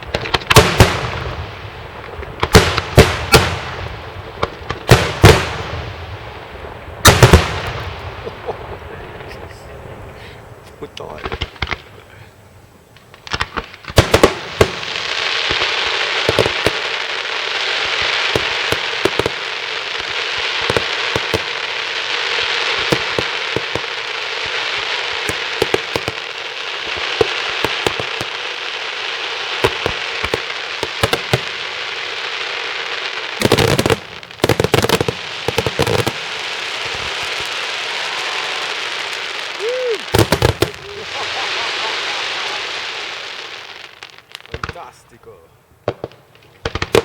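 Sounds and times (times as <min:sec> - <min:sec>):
fireworks bangs: 0:00.0 - 0:12.3, 0:12.9 - 0:47.0
fireworks crackling: 0:00.0 - 0:47.0.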